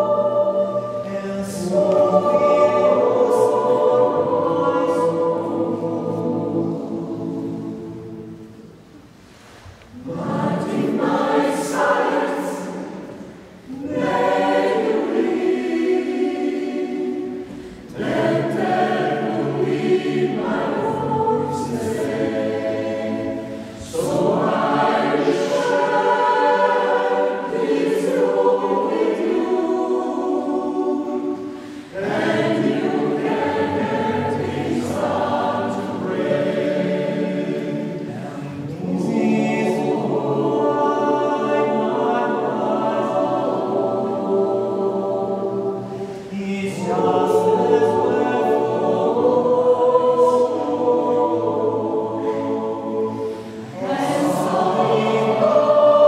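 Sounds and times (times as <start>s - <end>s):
mixed choir singing a cappella: 0.0s - 56.0s.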